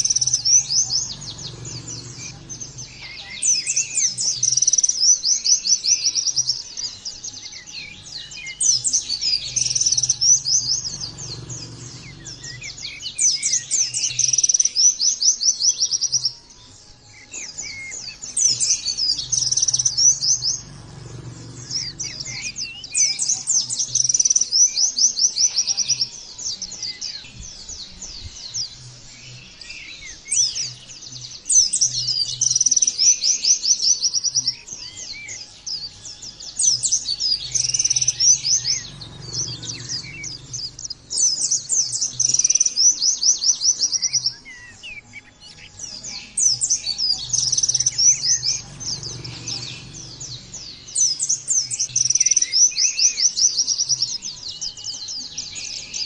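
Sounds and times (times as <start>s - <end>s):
white-eye bird twittering song: 0.0s - 56.0s.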